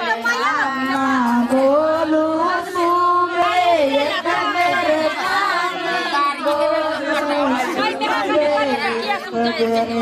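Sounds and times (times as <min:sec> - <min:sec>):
women singing slow melody: 0:00.0 - 0:10.0.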